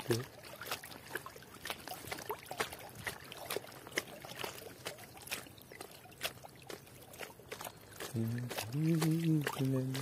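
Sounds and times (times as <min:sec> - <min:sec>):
small water splashes: 0:00.0 - 0:10.0
water dripping: 0:00.0 - 0:10.0.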